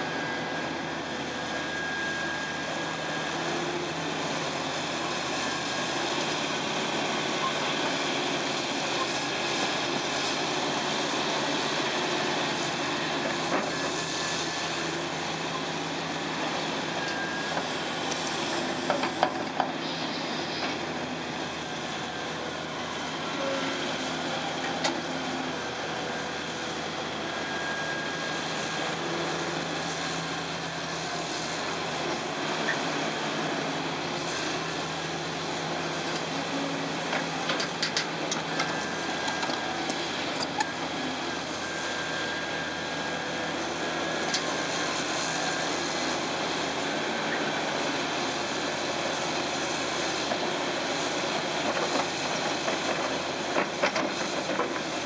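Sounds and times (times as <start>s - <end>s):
excavator engine and hydraulic drone: 0.0s - 55.0s.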